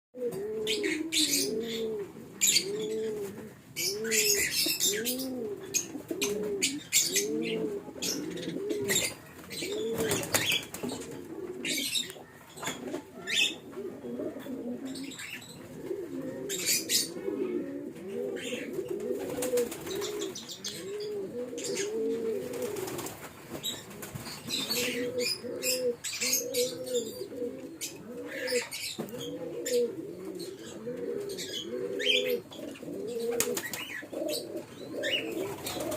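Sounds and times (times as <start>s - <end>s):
pigeons cooing: 0.2s - 35.9s.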